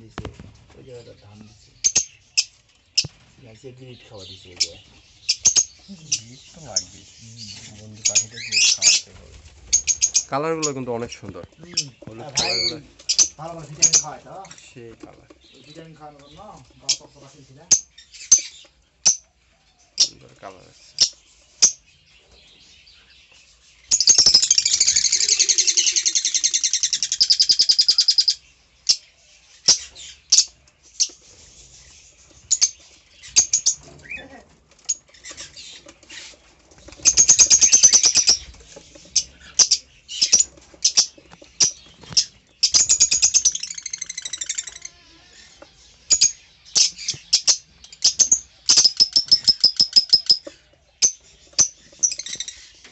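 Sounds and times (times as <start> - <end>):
lovebirds chirping and chattering: 0.0 - 52.9.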